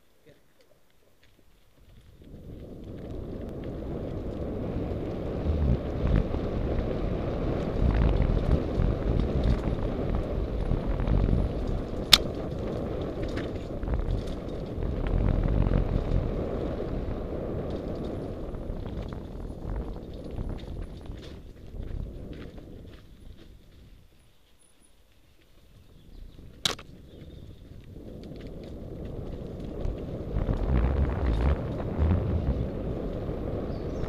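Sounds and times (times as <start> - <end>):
bike tyre noise: 0.8 - 34.0
wind rushing on microphone: 1.8 - 24.2, 25.6 - 34.0.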